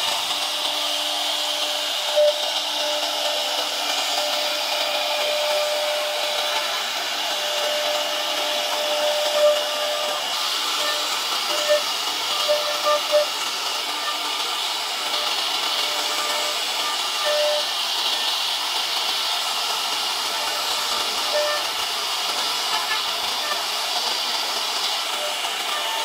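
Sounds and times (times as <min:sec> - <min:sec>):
router spindle whining: 0:00.0 - 0:18.4, 0:19.5 - 0:26.0
cutter routing wood: 0:00.0 - 0:26.0.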